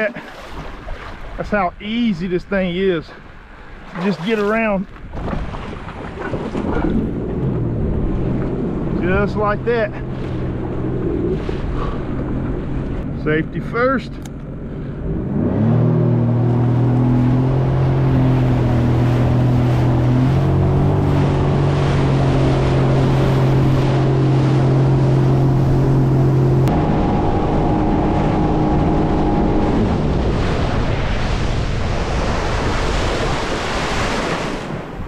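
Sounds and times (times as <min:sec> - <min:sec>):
water rushing: 0:00.0 - 0:14.0, 0:15.4 - 0:35.0
jet ski engine: 0:02.5 - 0:35.0
wind on microphone: 0:04.9 - 0:13.2, 0:15.0 - 0:35.0.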